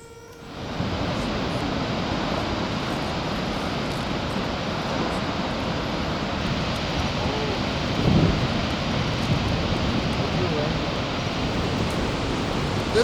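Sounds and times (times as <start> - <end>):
waterfall roaring: 0.6 - 13.0.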